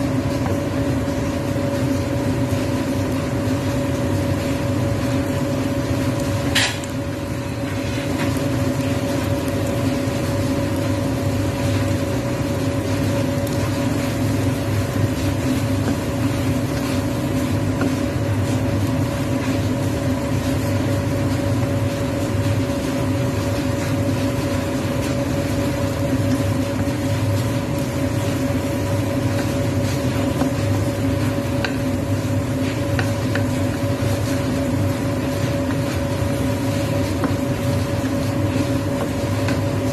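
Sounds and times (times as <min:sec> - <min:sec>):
steady machine hum: 0:00.0 - 0:39.9
wooden spatula scraping wok: 0:07.4 - 0:39.9.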